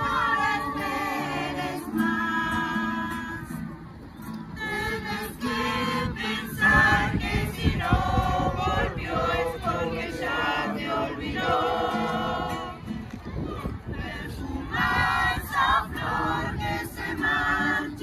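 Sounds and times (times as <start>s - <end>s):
choir singing: 0.0s - 3.7s, 4.4s - 13.0s, 13.6s - 18.0s
acoustic guitar: 0.0s - 18.0s.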